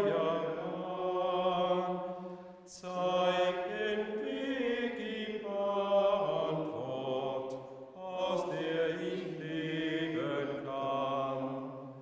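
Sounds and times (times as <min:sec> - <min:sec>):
men singing a hymn: 0:00.0 - 0:12.0.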